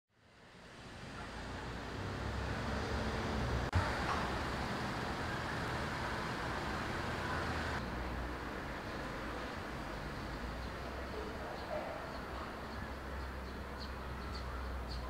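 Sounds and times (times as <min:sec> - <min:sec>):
road traffic hiss: 0:00.2 - 0:15.0.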